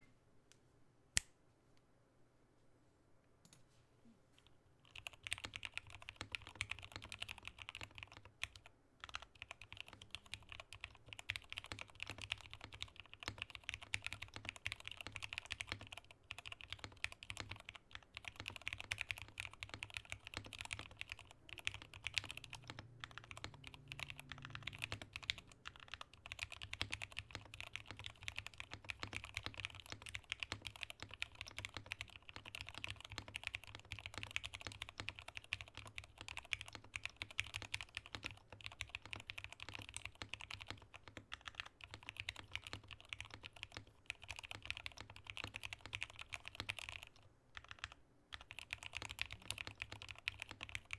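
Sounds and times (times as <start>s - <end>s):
mechanical keyboard typing: 4.9s - 50.9s.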